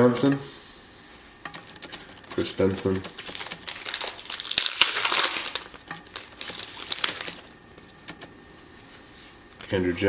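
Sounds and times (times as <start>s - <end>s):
cards and foil wrapper crinkling: 1.5s - 9.8s.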